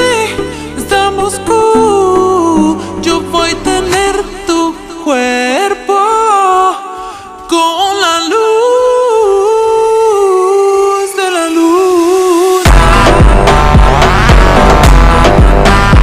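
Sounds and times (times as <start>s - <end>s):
person singing: 0.0s - 16.0s.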